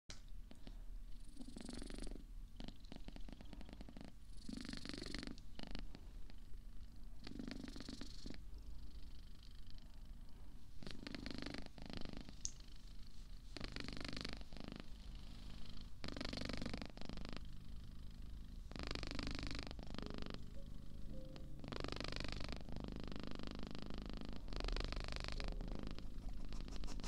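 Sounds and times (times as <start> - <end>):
cat purring: 0.4 - 27.0.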